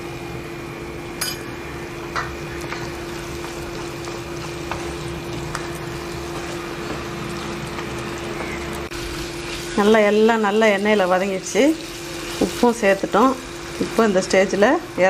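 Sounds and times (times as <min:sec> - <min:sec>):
steady low hum: 0:00.0 - 0:15.0
food sizzling in oil: 0:02.0 - 0:15.0.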